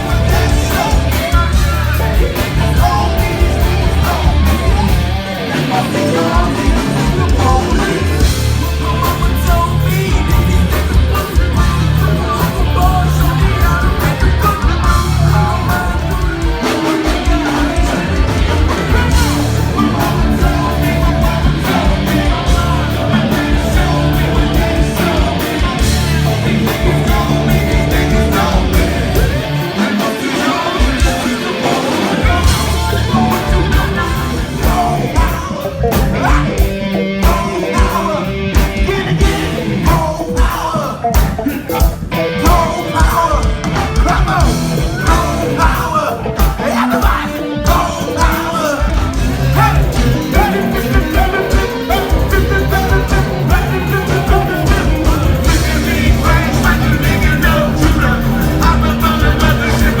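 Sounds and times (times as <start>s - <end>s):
funk band playing: 0.0s - 60.0s
heavy bass line: 0.0s - 60.0s
vocals and shouts: 0.0s - 60.0s.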